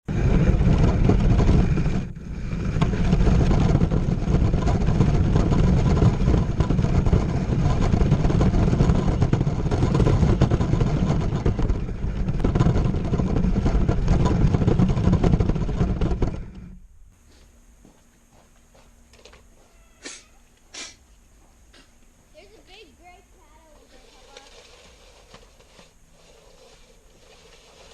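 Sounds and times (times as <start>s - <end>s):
rc truck rough rumble: 0.0s - 17.1s, 22.4s - 27.9s.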